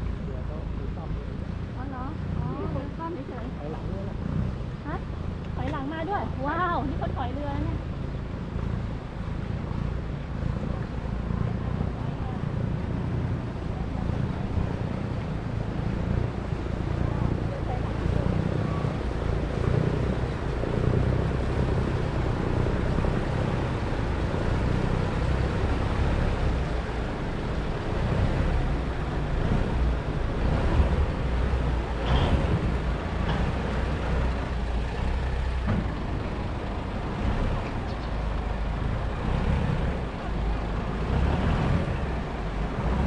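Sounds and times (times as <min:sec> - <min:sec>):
boat diesel engine humming: 0:00.0 - 0:43.0.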